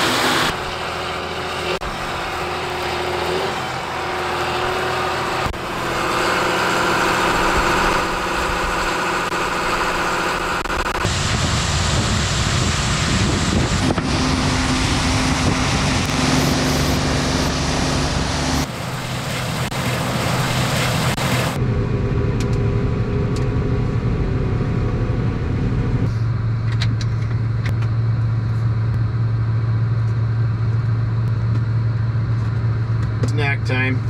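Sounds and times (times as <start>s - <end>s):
harvest machinery engines droning: 0.0s - 34.0s.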